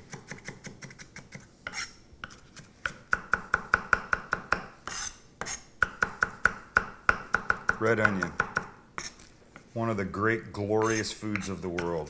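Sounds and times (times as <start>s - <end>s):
knife chopping on wooden board: 0.0s - 9.1s, 10.8s - 12.0s.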